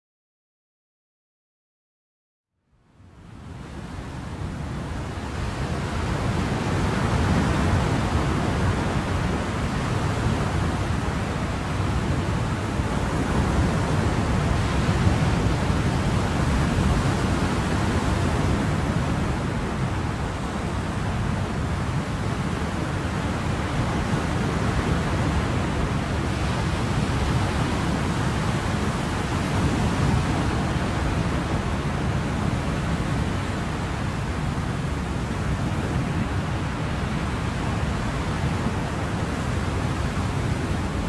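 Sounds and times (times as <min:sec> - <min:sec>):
ocean waves: 0:03.4 - 0:41.0.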